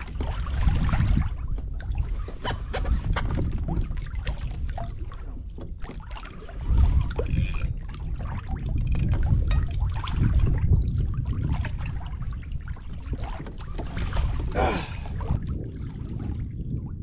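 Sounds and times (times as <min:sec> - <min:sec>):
water slapping against kayak hull: 0:00.0 - 0:16.9
wind rumbling on microphone: 0:00.0 - 0:17.0.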